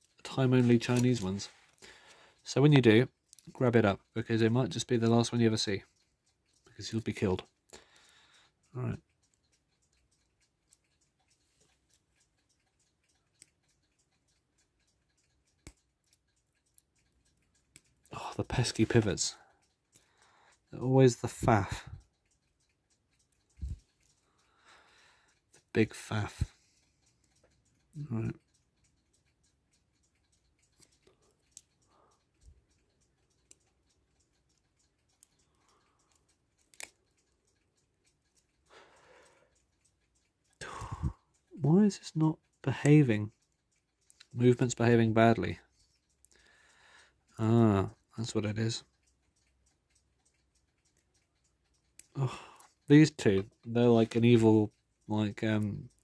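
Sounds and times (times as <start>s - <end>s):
faint clicks of clock parts: 0.0s - 56.0s.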